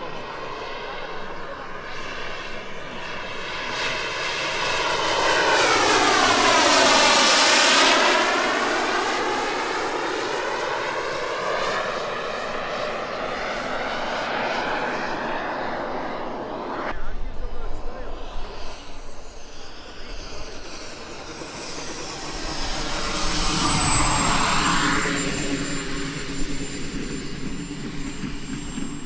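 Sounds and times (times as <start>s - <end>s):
jet turbine whine flying past: 0.0s - 29.0s.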